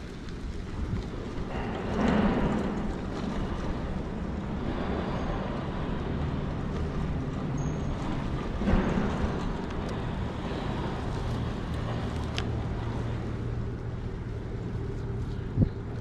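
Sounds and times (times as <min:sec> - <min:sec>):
bicycle tyres rolling on dirt: 0:00.0 - 0:16.0
wind on microphone: 0:00.0 - 0:16.0.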